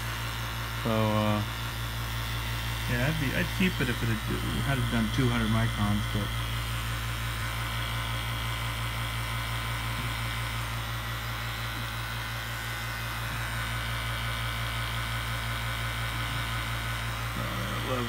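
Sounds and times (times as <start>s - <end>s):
vacuum pump humming: 0.0s - 18.0s.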